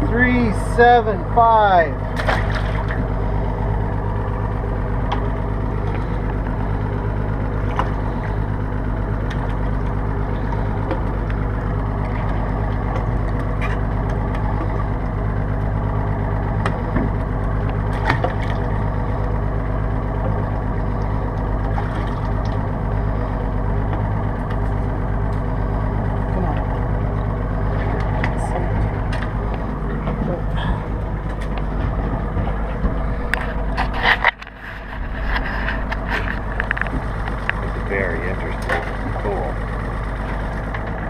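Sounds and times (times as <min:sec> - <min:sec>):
boat engine idling: 0:00.0 - 0:41.0.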